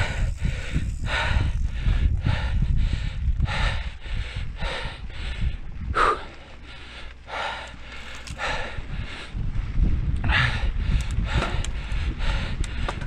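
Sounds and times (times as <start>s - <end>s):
person panting hard: 0.0s - 13.0s
tyres on dirt trail: 0.0s - 13.0s
wind rumble: 0.0s - 13.0s.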